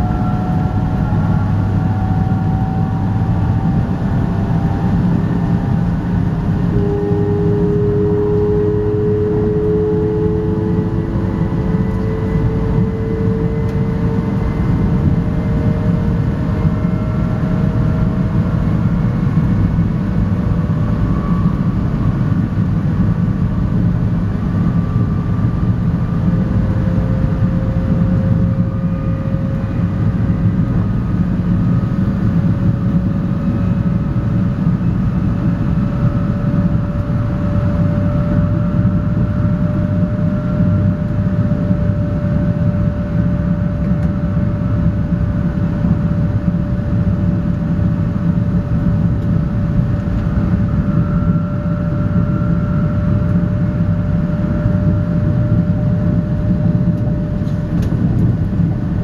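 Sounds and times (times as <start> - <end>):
train running at speed: 0.0 - 59.0.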